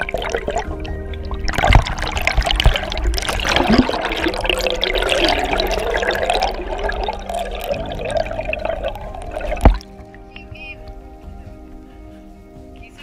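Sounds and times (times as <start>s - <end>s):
muffled underwater churning water: 0.0s - 12.0s.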